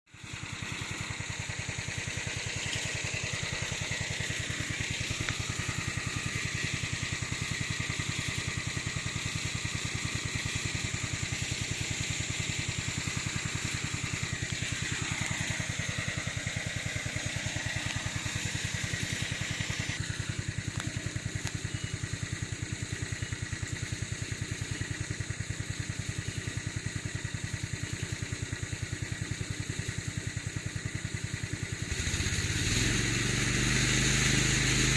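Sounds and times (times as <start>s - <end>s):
lawn mower engine whining: 0.1s - 34.9s.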